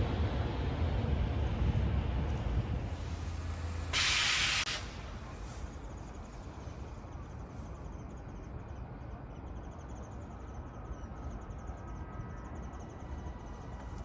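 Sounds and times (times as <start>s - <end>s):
electric locomotive rumbling: 0.0s - 14.0s.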